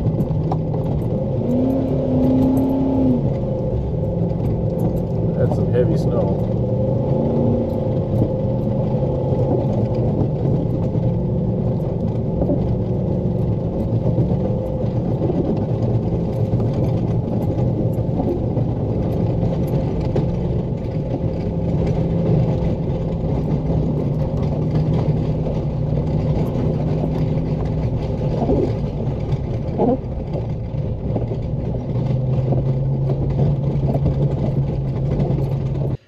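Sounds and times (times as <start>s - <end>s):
snow plow pushing snow: 0.0s - 36.0s
truck engine running under load: 0.0s - 36.0s.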